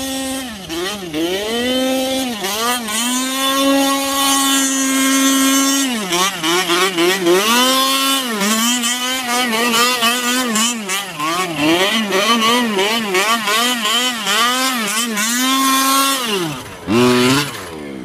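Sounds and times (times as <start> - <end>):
two-stroke engine revving: 0.0 - 18.0.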